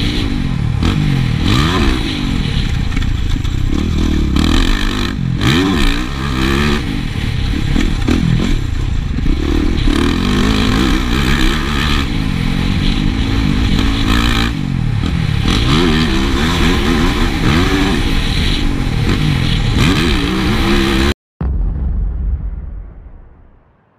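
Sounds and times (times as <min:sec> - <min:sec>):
motocross bike engine revving: 0:00.0 - 0:21.2.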